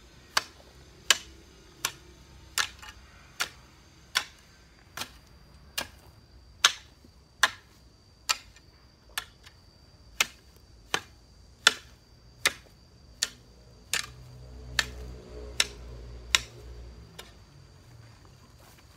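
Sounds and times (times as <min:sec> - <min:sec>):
hoe chopping into soil: 0:00.3 - 0:17.4.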